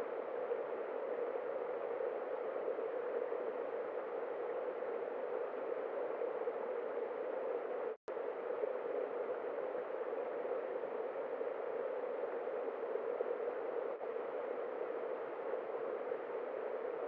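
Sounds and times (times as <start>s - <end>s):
microphone hiss: 0.0s - 17.0s.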